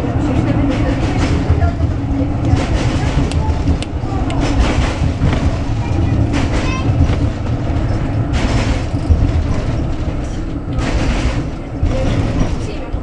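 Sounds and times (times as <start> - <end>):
rattling noise rushes: 0.0 - 13.0
tram wheels rumbling on rail: 0.0 - 13.0.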